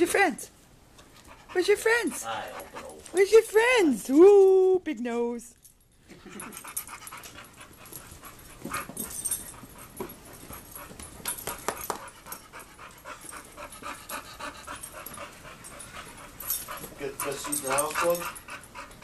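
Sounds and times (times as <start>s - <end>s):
dogs scuffling and clicking: 0.9s - 4.6s, 5.5s - 19.0s.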